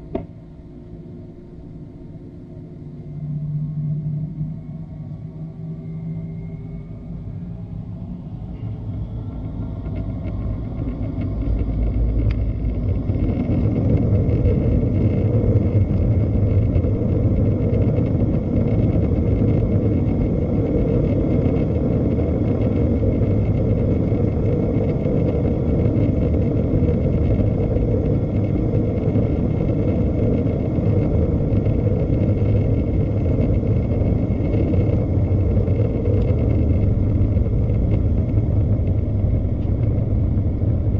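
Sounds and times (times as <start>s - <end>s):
thin engine whine: 0.0s - 40.9s.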